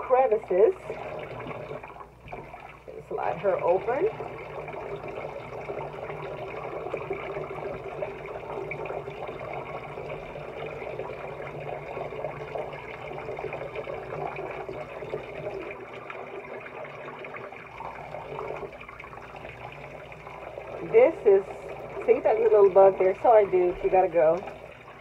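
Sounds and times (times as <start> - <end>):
tap water running into sink: 0.0 - 25.0
water splashing and trickling: 0.0 - 25.0.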